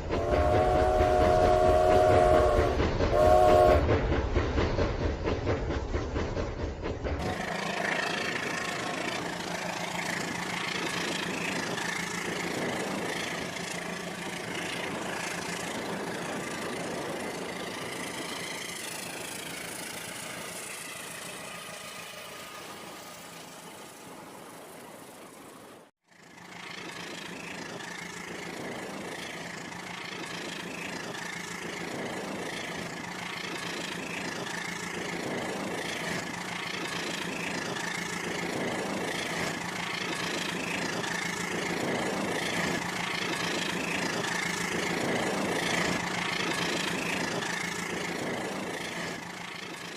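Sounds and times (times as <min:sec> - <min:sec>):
toy train motor hum: 0:07.2 - 0:25.4, 0:26.2 - 0:49.9.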